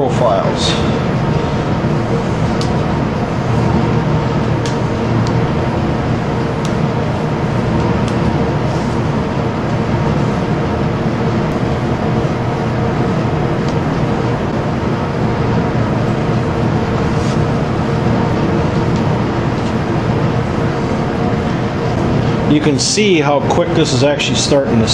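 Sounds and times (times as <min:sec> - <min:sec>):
exhaust fan drone: 0:00.0 - 0:24.9
faint hum: 0:00.0 - 0:24.9.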